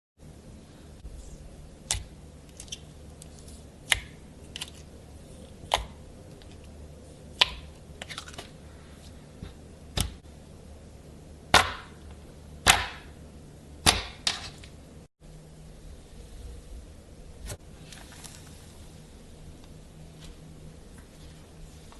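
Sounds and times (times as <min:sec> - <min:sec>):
low steady hum: 0:00.2 - 0:21.9.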